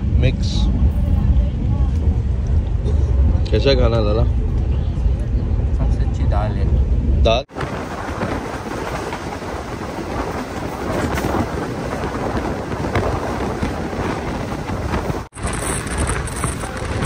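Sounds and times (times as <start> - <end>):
rushing air: 0.0 - 17.0
train wheels rumbling on rails: 0.0 - 17.0.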